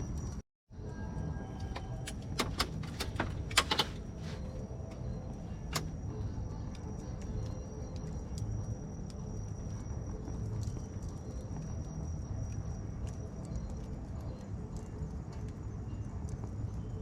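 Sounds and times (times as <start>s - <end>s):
low rumble of burning fire: 0.0s - 17.0s
wood fire crackling and popping: 1.8s - 17.0s.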